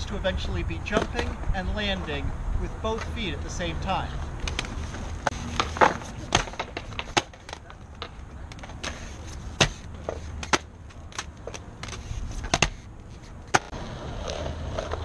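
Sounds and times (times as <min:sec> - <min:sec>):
skate frames clacking on ground: 0:00.0 - 0:02.2, 0:02.9 - 0:15.0
skates rolling on concrete: 0:00.0 - 0:15.0.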